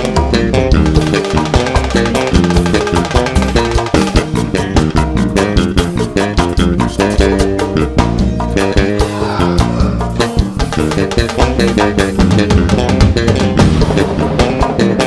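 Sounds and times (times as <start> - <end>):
band playing: 0.0 - 15.0
electric bass line: 0.0 - 15.0
percussion and drum kit: 0.0 - 15.0.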